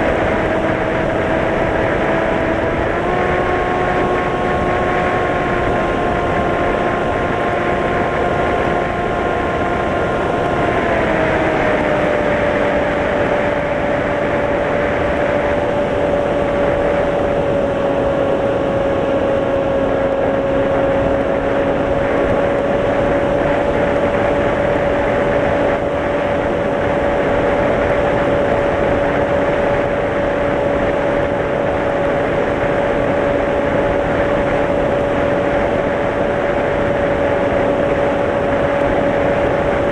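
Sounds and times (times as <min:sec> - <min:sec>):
electric motor and propeller whine: 0:00.0 - 0:39.9
wind rush: 0:00.0 - 0:39.9.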